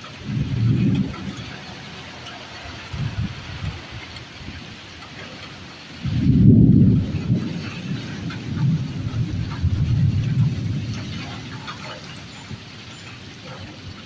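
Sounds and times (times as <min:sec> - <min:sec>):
rain hissing: 0:00.0 - 0:14.0
thunder rumbling: 0:00.0 - 0:14.0.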